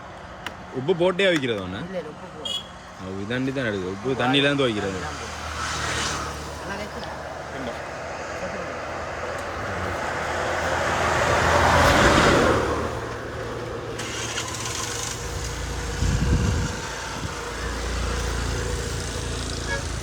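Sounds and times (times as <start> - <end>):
steady traffic noise: 0.0 - 20.0
vehicle passing close by: 3.9 - 20.0.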